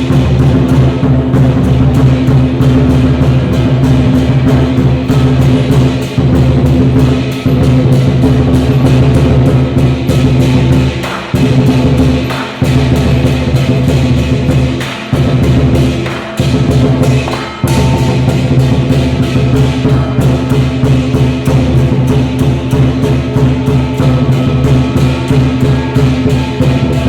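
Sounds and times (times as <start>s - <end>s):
loud fast drumming: 0.0s - 27.0s.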